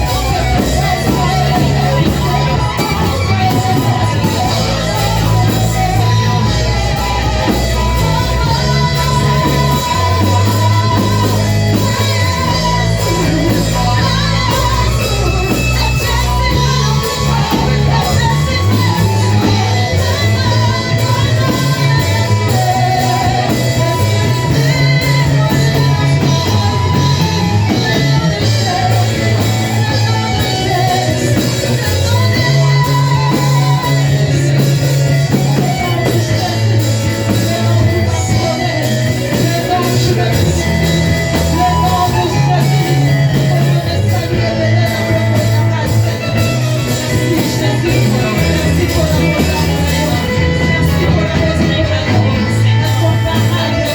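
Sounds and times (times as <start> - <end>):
electric bass notes: 0.0 - 53.9
person singing: 0.0 - 53.9
worship band music: 0.0 - 53.9.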